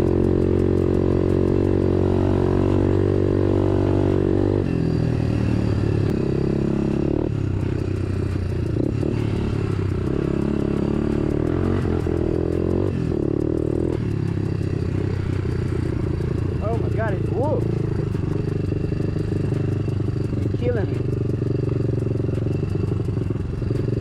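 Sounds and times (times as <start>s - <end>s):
bike rattling: 0.0s - 24.0s
dirt bike engine revving: 0.0s - 24.0s.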